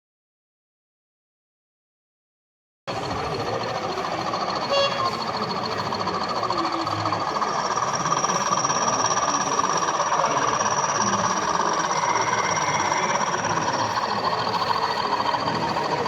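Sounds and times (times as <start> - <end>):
high motor whine: 2.9 - 16.0
model train rolling rumble: 2.9 - 16.0.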